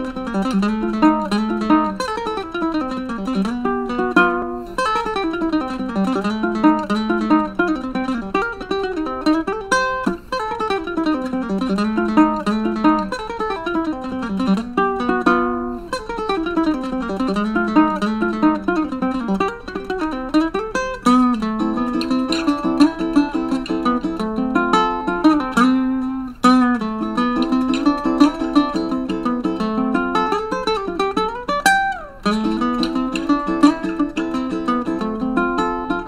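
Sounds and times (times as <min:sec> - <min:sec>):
fingerpicked ukulele: 0:00.0 - 0:36.0.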